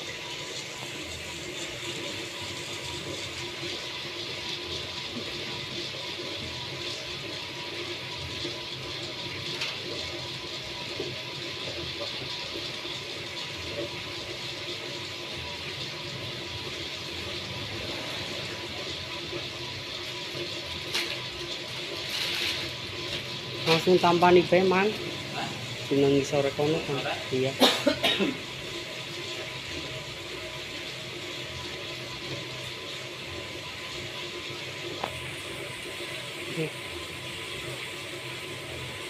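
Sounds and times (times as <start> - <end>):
popcorn machine pan sizzling: 0.0 - 39.0.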